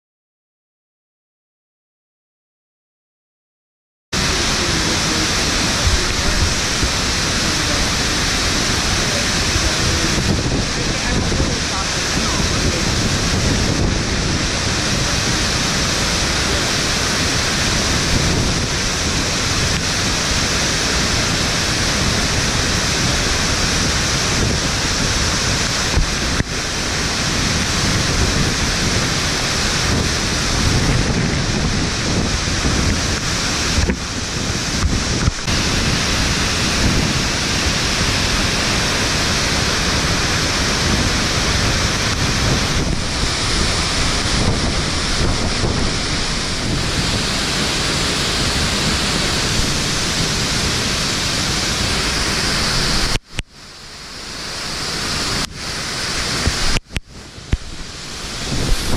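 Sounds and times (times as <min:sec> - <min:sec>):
waterfall rushing: 0:04.2 - 0:58.9.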